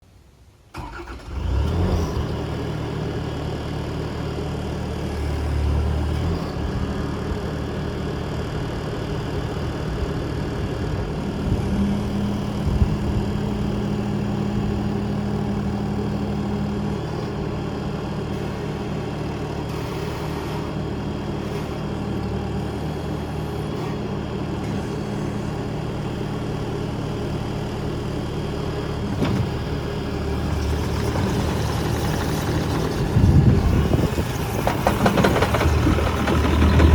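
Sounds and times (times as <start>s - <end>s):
diesel engine starting and idling: 0.6s - 36.9s.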